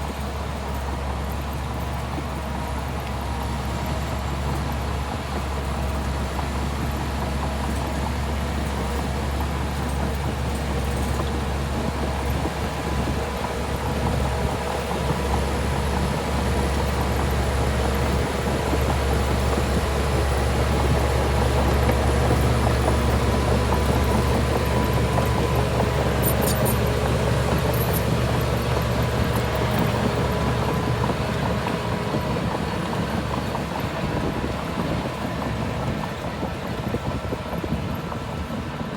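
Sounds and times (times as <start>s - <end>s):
heavy diesel machinery humming: 0.0s - 38.9s.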